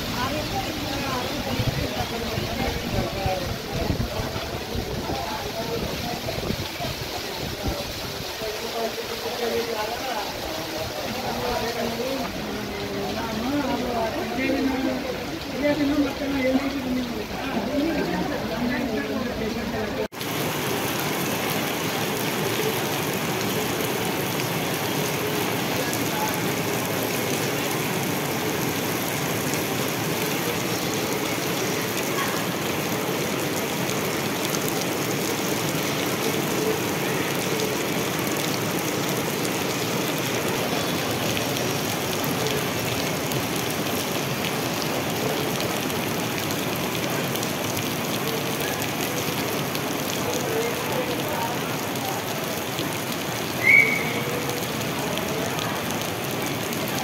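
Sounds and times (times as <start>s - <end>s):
heavy rain on paving and puddles: 0.0s - 57.0s.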